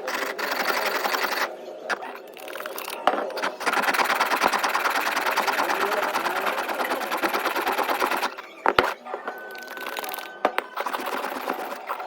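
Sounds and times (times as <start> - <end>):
small machine rattling: 0.0 - 1.5, 2.3 - 12.0.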